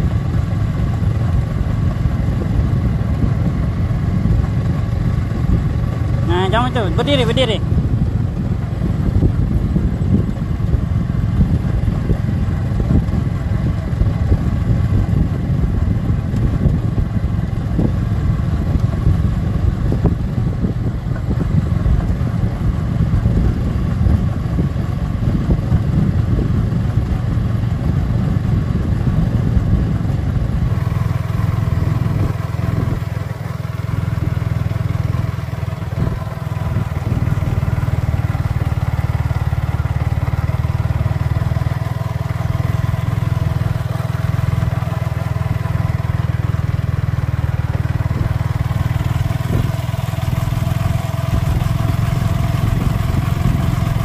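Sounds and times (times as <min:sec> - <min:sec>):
motorcycle engine rumble: 0:00.0 - 0:54.0
road noise: 0:00.0 - 0:54.0.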